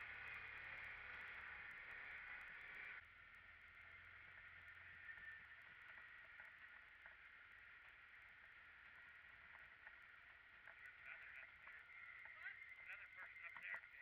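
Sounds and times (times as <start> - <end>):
faint chirps: 0.0 - 14.0.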